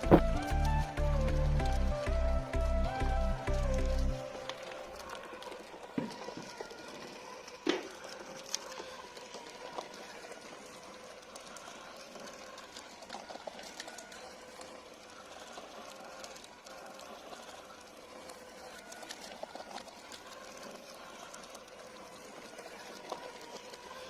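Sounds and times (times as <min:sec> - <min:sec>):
small electric motor whine: 0:04.1 - 0:24.0.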